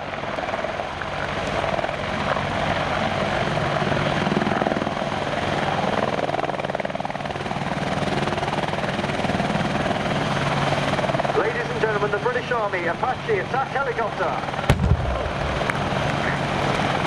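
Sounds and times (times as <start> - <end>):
helicopter engine drone: 0.0 - 17.0
helicopter rotor beating: 0.0 - 17.0.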